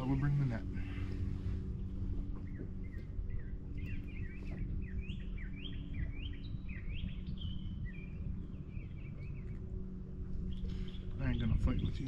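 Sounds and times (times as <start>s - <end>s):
songbird chirping: 1.8s - 12.0s.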